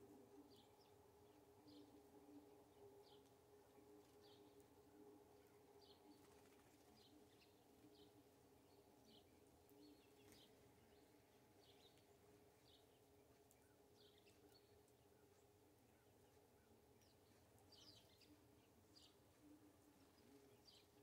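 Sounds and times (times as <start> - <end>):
low steady hum: 0.0 - 21.0
songbirds chirping: 0.0 - 21.0.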